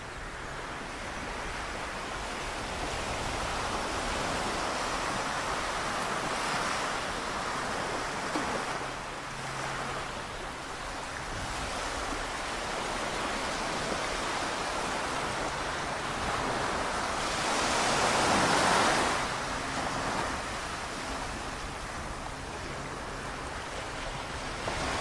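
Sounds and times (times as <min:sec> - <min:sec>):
small waves washing onto beach: 0:00.0 - 0:25.0.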